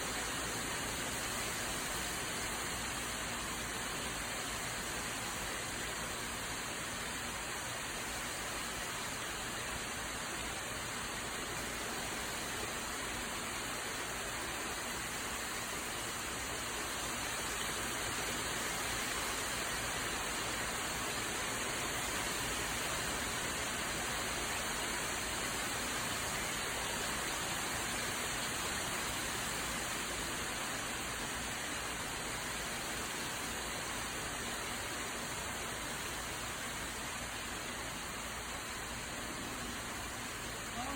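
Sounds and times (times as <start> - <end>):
steady rain shower: 0.0 - 40.9.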